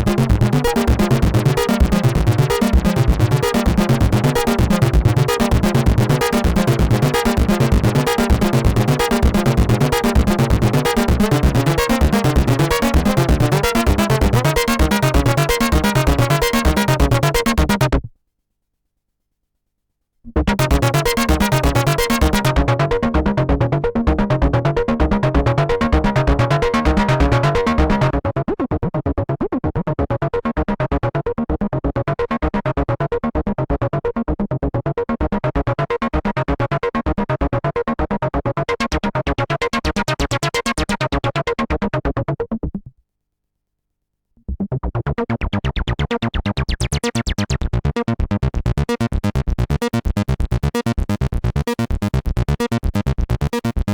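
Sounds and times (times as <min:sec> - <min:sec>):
acid bass synth sequence: 0:00.0 - 0:18.1, 0:20.3 - 0:42.9, 0:44.4 - 0:53.9.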